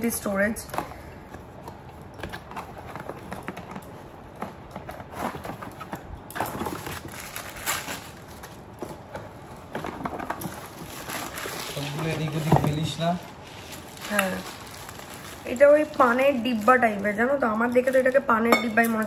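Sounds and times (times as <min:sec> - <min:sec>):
packaging rustling and crinkling: 0:00.0 - 0:18.4.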